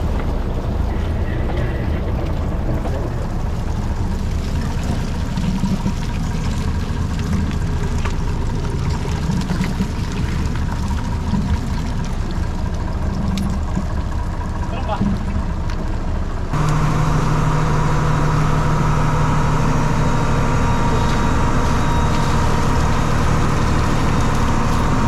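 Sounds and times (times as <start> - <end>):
boat diesel engine rumbling: 0.0 - 25.0
water rushing around boat: 0.0 - 25.0.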